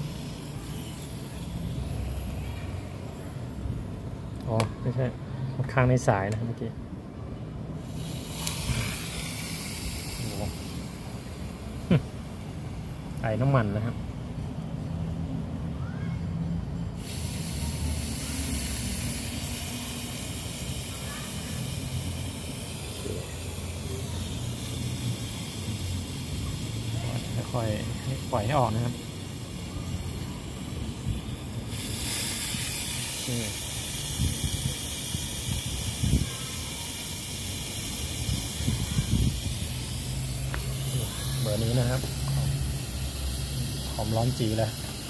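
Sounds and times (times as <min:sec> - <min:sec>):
compressed gas hissing: 0:00.0 - 0:06.1, 0:07.6 - 0:15.5, 0:16.7 - 0:45.0.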